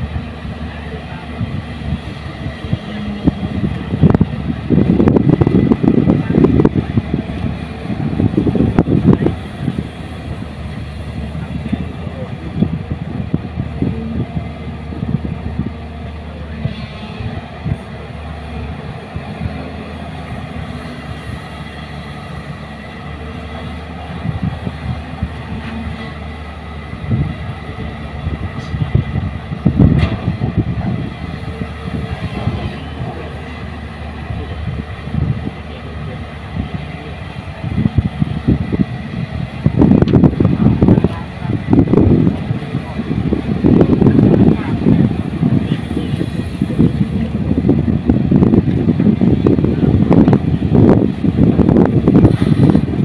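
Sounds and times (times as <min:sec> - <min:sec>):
excavator diesel engine rumble: 0:00.0 - 0:53.0
truck engines running: 0:00.0 - 0:53.0.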